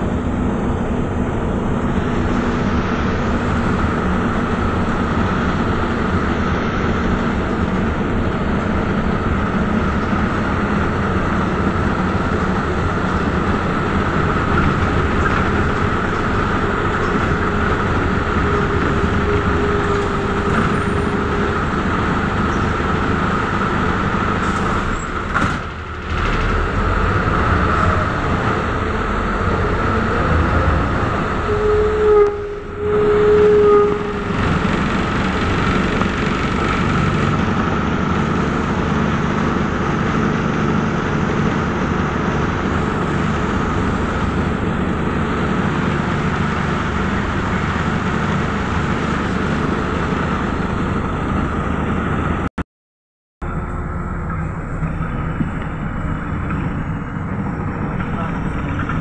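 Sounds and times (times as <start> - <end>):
bus engine and road noise: 0.0 - 52.6, 53.4 - 59.0.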